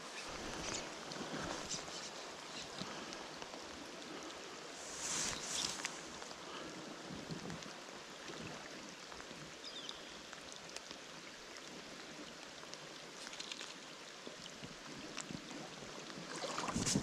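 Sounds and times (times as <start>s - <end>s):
stream rushing over gravel: 0.0s - 17.0s
small ticks and trickles: 0.1s - 17.0s.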